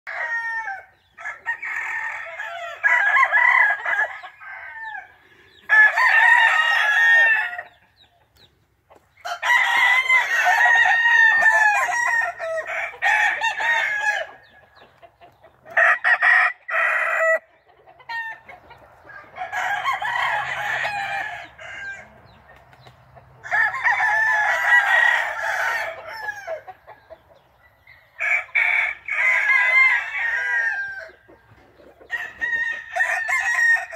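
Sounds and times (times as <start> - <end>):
roosters crowing: 0.1 - 8.1, 9.0 - 33.9.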